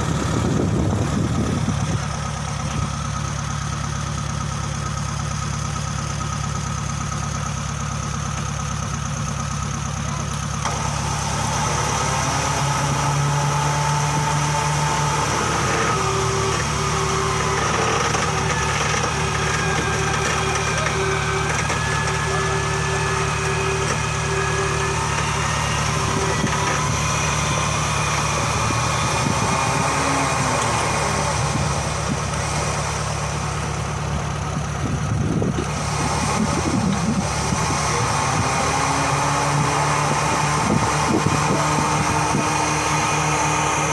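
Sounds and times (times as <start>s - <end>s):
vehicle engine idling: 0.0s - 43.9s.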